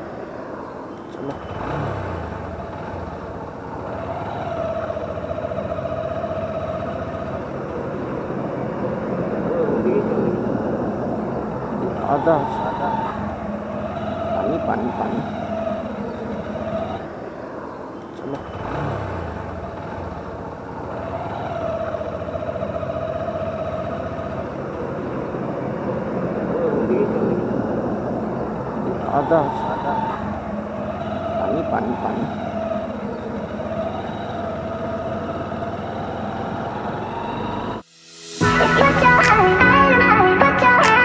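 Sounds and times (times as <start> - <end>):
motorcycle engine pulling away: 1.0 - 37.8.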